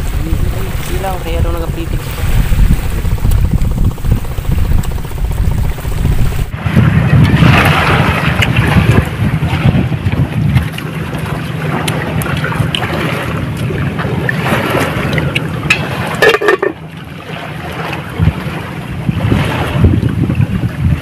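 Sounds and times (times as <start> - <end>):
sea washing against rocks: 0.0 - 21.0
wind buffeting microphone: 0.0 - 21.0.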